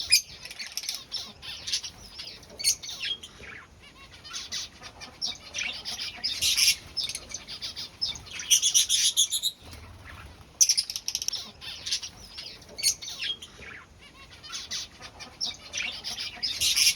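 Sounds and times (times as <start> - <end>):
chicks chirping high-pitched: 0.0 - 16.9.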